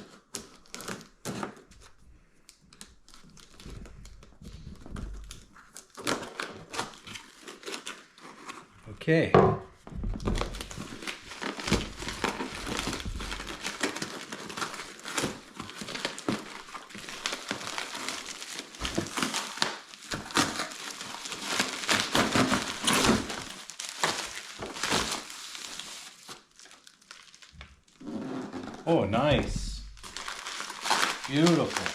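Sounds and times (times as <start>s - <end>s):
wrapping crinkling and crumpling: 0.0s - 8.9s, 10.1s - 28.0s, 28.7s - 31.9s.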